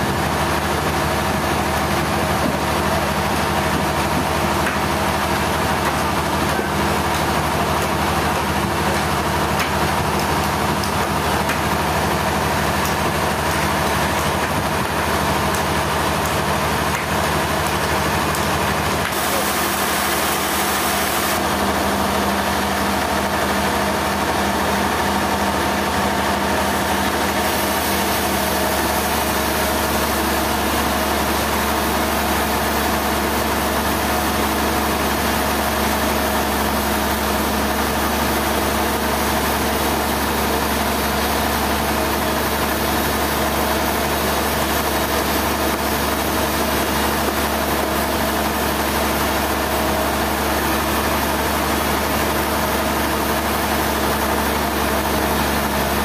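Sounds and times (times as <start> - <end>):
heavy machinery humming: 0.0 - 56.0.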